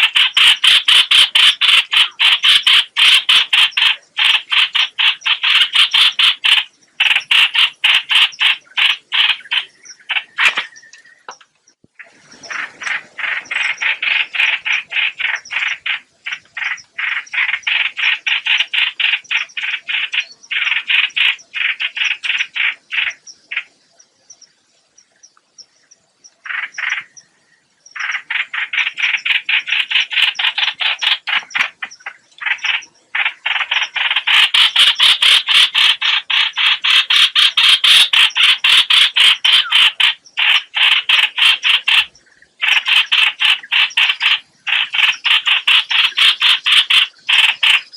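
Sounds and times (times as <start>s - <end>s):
bird harsh repeated call: 0.0s - 24.5s, 26.3s - 47.9s.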